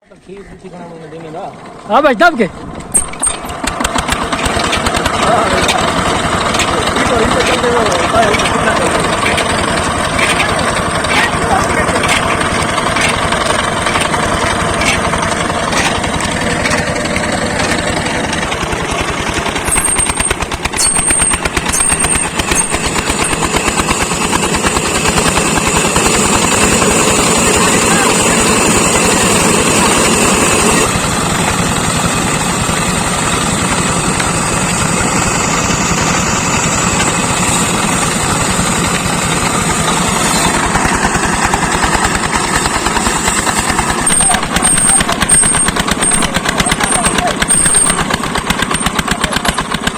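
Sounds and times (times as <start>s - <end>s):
diesel engine knocking: 0.0s - 49.9s.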